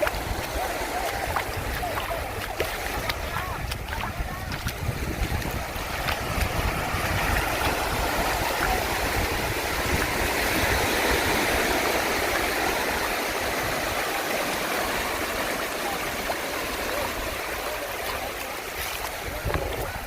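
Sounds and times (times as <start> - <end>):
surf washing onto beach: 0.0 - 20.0
wind rumbling on microphone: 0.0 - 20.0.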